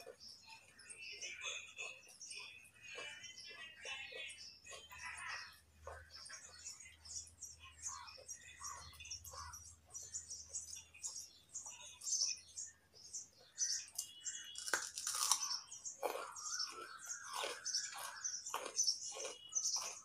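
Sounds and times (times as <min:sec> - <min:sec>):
chirping: 0:00.0 - 0:20.0
crunching and chewing carrot: 0:00.0 - 0:20.0.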